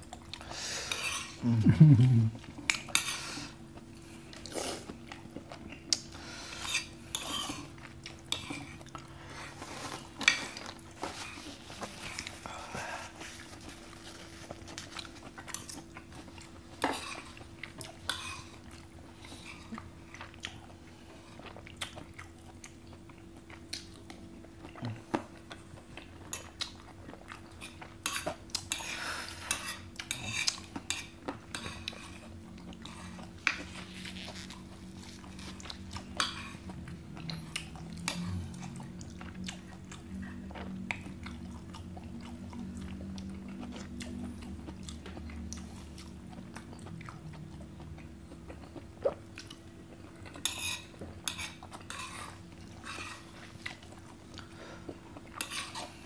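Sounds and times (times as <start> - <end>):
steady low hum: 0.0 - 56.0
chewing: 0.1 - 56.0.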